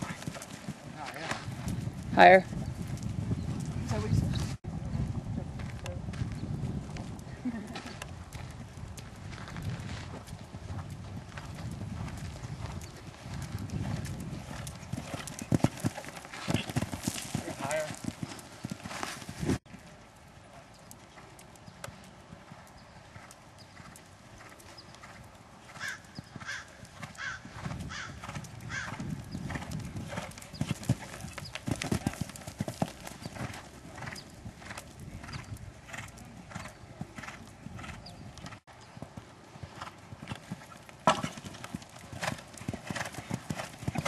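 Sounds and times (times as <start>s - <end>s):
horse hoofbeats on dirt: 0.0s - 44.0s.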